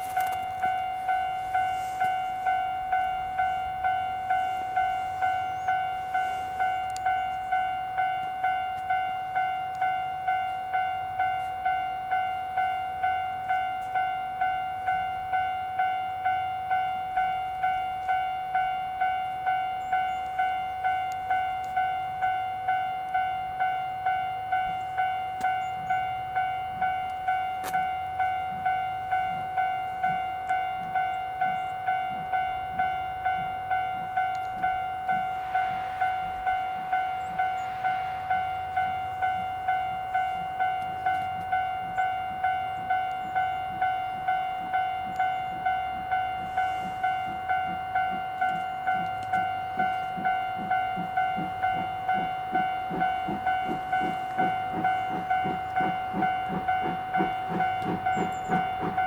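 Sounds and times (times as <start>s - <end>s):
level crossing warning bell ringing: 0.0s - 59.0s.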